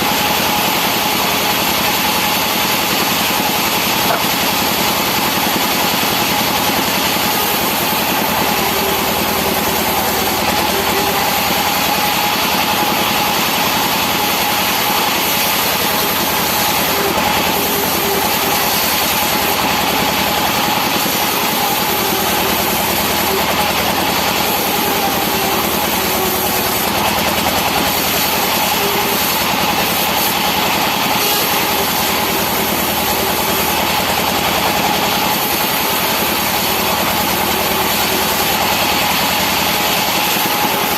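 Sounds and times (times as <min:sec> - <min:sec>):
sawmill machinery whine: 0:00.0 - 0:40.9.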